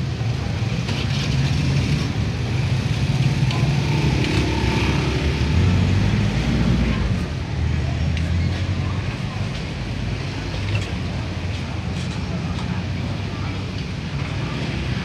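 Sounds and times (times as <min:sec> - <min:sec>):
street market noise: 0:00.0 - 0:15.0
vehicle engine rumble: 0:00.0 - 0:15.0.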